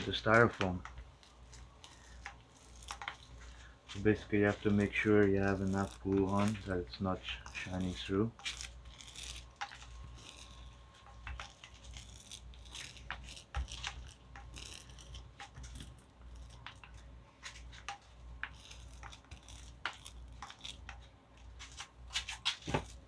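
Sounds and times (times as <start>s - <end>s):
glue applicator scratching: 0.0s - 23.0s.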